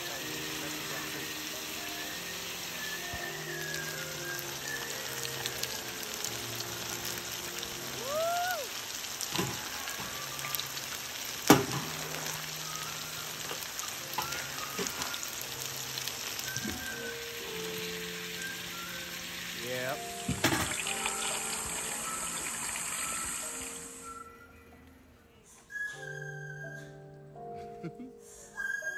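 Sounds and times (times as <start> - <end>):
food sizzling in a pan: 0.0 - 24.3
quiet background music: 0.0 - 28.9.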